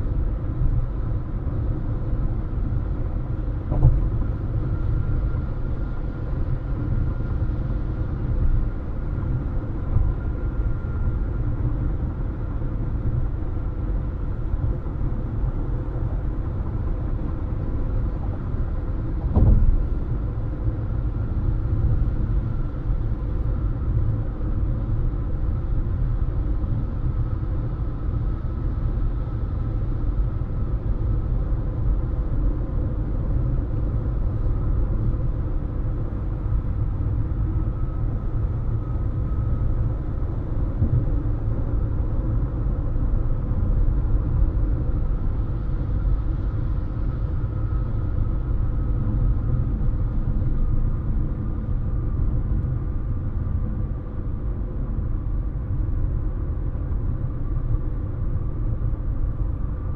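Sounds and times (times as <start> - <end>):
car road rumble: 0.0 - 26.7, 30.3 - 59.9
faint whine: 0.0 - 59.9.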